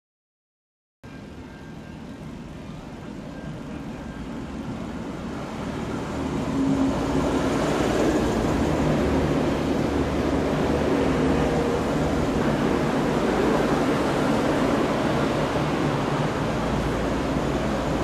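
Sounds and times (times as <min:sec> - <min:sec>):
diesel train engines: 0:01.0 - 0:18.0
train wheels on rails: 0:03.0 - 0:18.0.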